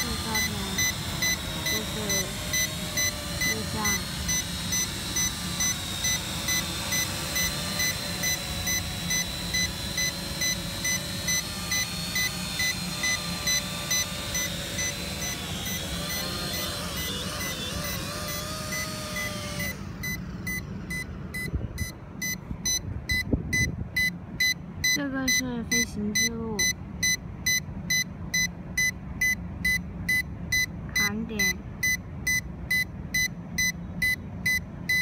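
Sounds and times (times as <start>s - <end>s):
drone motor whirring hum: 0.0s - 35.0s
electronic beeping: 0.0s - 35.0s.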